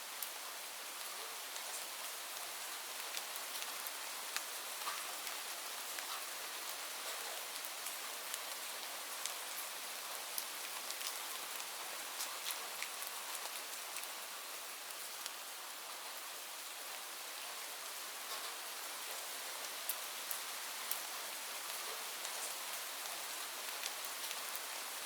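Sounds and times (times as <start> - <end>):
rain drops on hard surface: 0.0 - 25.0.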